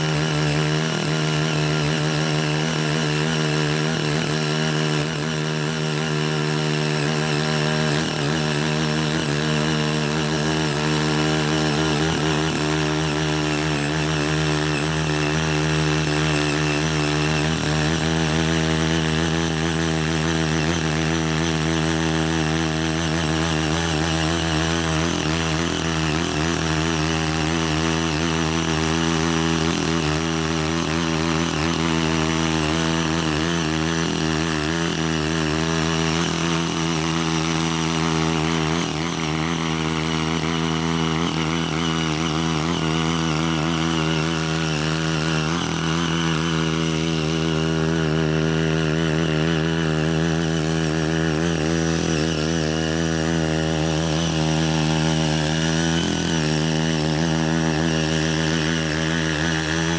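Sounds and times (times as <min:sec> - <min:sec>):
small tiller engine running: 0:00.0 - 0:59.9
tilling blades working soil: 0:00.0 - 0:59.9.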